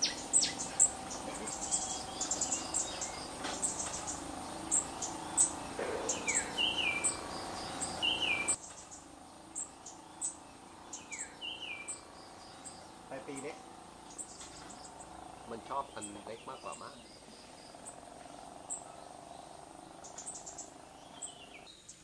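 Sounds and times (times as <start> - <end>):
high bird chirps: 0.0 - 22.0.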